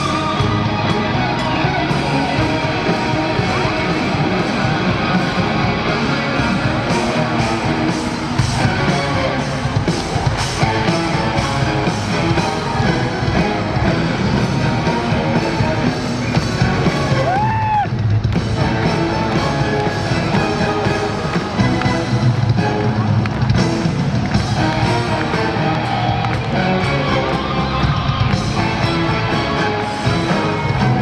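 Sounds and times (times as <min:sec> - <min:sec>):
hard rock band playing: 0:00.0 - 0:31.0
orchestra: 0:00.0 - 0:31.0.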